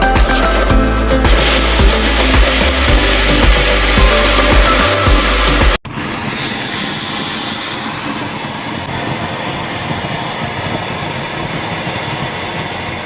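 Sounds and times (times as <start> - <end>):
firecracker fuse hissing: 0.0 - 13.0.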